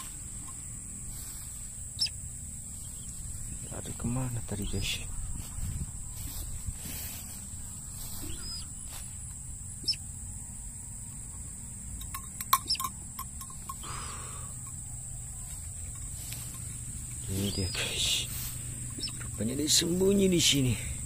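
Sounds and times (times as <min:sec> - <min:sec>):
rustle of walking in grass: 0:00.0 - 0:11.7, 0:12.4 - 0:21.0
high-pitched insect drone: 0:00.0 - 0:21.0.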